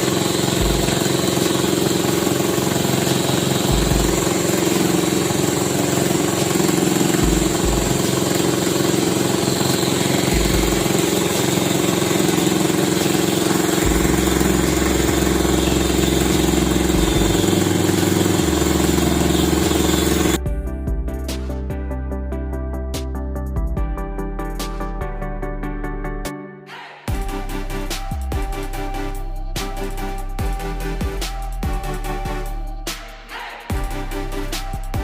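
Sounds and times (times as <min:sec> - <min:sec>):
engine running steadily: 0:00.0 - 0:21.9, 0:27.1 - 0:35.0.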